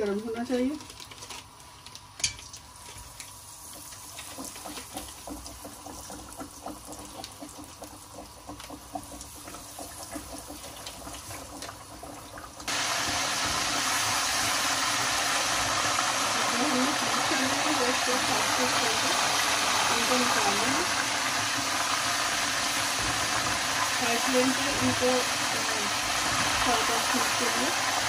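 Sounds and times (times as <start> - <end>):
food deep-frying in hot oil: 0.0 - 28.0.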